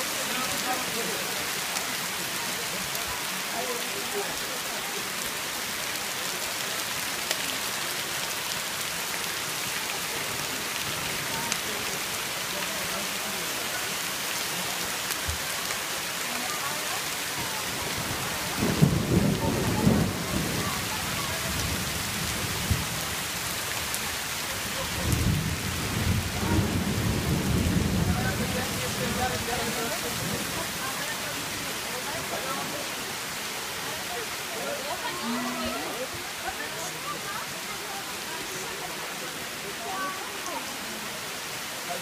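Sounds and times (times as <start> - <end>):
rain on stone and leaves: 0.0 - 42.0.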